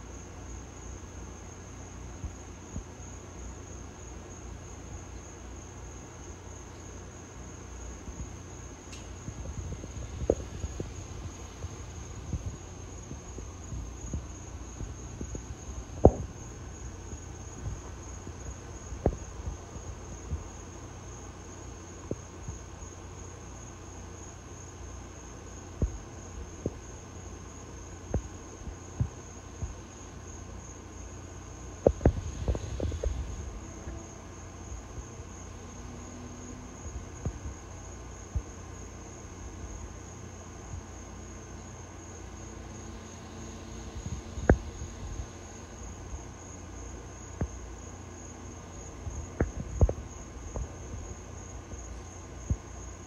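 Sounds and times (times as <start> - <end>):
crickets chirring: 0.0 - 53.0.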